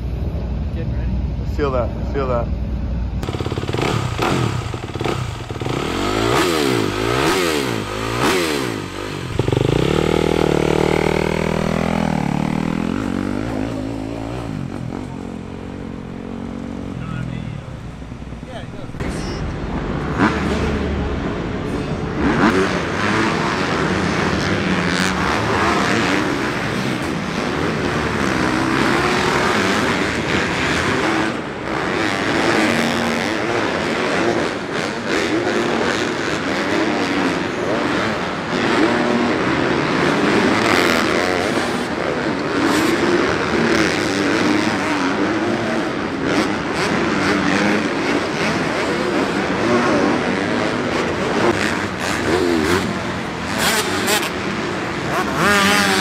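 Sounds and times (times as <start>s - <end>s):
dirt bike engines racing: 0.0s - 56.0s.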